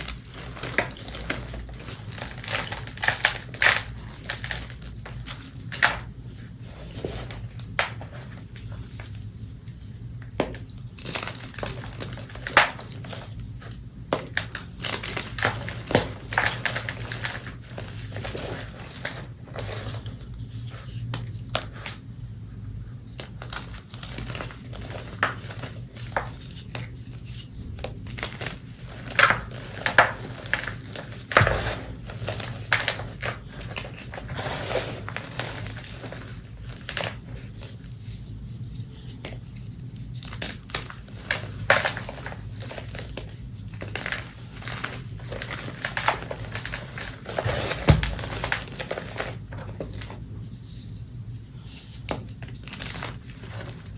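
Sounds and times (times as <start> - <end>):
chalk crunching and crackling: 0.0 - 22.1, 22.9 - 53.9.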